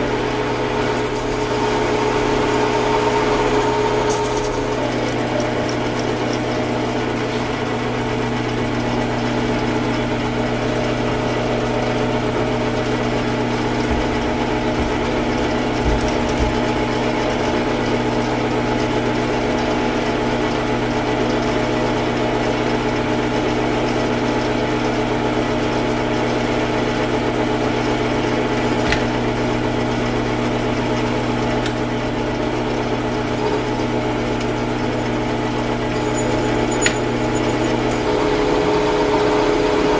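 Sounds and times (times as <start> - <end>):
shop machine motor humming: 0.0 - 39.9.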